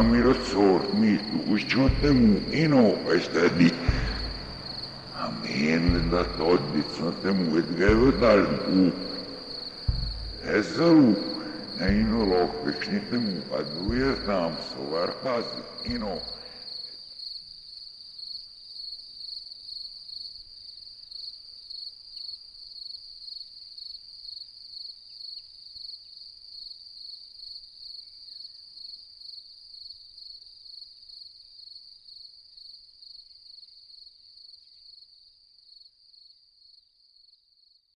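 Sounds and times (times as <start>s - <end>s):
cricket chirping: 0.0s - 37.9s.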